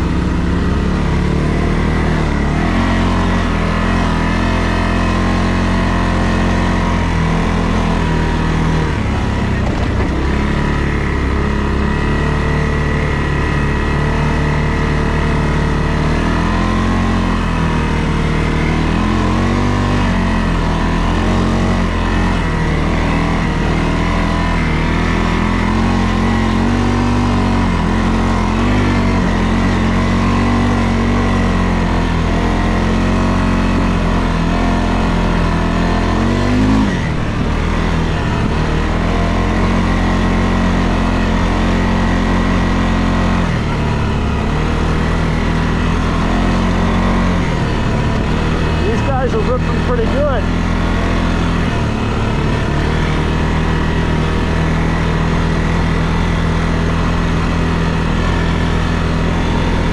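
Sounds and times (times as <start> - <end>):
quad bike engine revving: 0.0 - 59.9.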